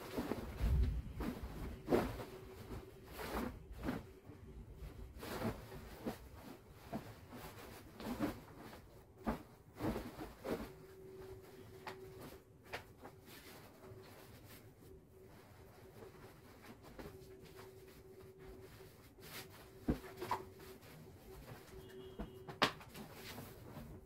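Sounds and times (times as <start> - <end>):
bed sheet rustling and swishing: 0.0 - 24.0.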